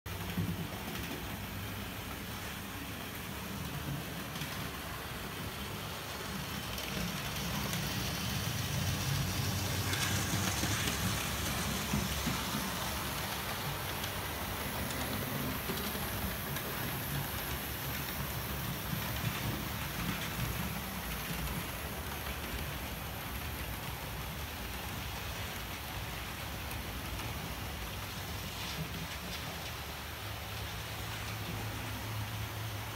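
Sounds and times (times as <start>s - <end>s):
model trains rumbling on track: 0.1s - 32.9s.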